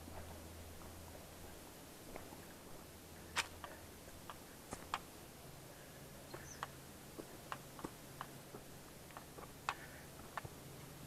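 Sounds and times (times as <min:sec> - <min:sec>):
footsteps on dry bush track: 0:00.0 - 0:10.6.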